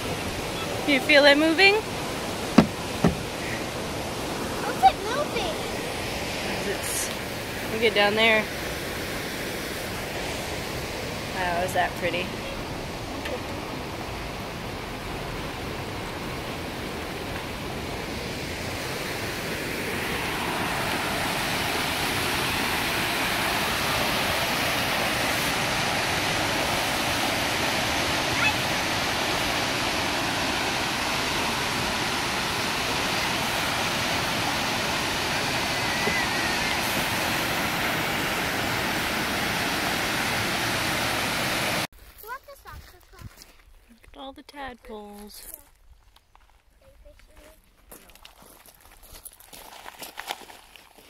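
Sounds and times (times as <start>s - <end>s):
rapids pouring over rock ledges: 0.0s - 41.9s.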